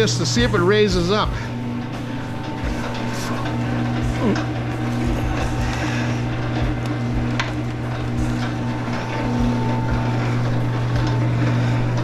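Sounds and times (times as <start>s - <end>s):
wire-stripping machine humming: 0.0s - 12.0s.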